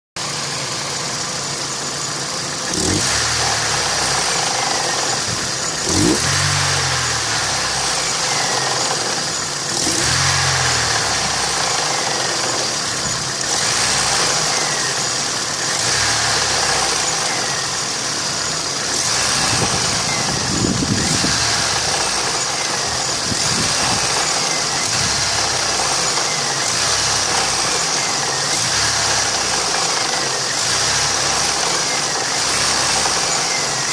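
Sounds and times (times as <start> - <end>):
car engine idling and revving: 0.2 - 33.9
engine knocking: 0.2 - 33.9.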